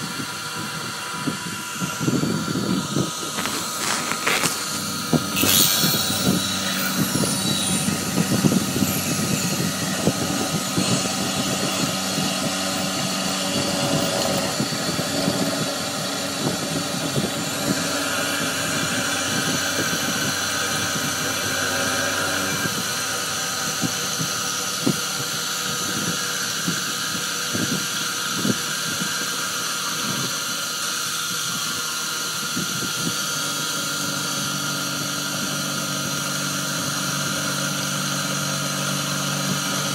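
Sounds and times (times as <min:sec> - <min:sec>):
milling machine motor hum: 0:00.0 - 0:39.9
pitched machine whines: 0:00.0 - 0:39.9.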